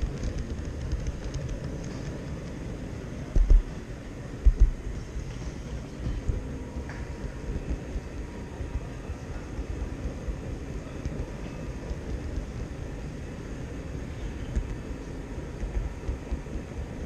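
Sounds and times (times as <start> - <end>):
exhibition hall background noise: 0.0 - 17.0.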